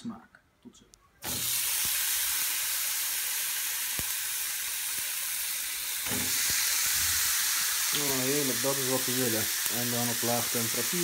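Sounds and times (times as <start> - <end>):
meat sizzling on grill pan: 1.2 - 11.0.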